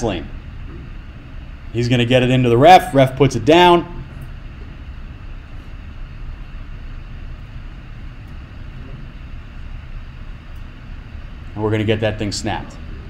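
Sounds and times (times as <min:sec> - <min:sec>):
low rumble with faint hiss: 0:00.0 - 0:13.0.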